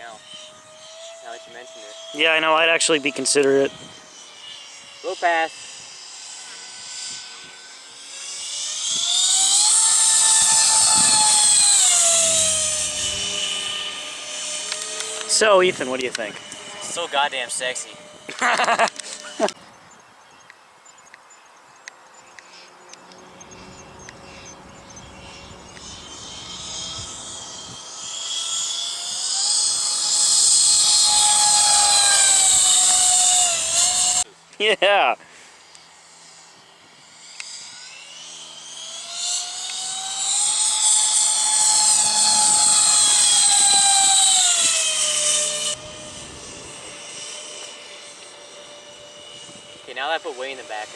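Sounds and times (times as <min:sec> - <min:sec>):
model jet fans whining past: 0:00.0 - 0:20.4, 0:22.1 - 0:50.9.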